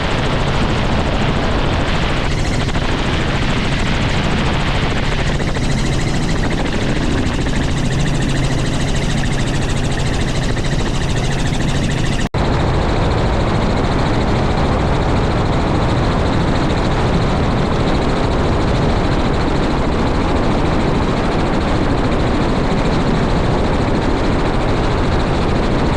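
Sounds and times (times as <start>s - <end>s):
helicopter rotor and engine: 0.0s - 25.9s.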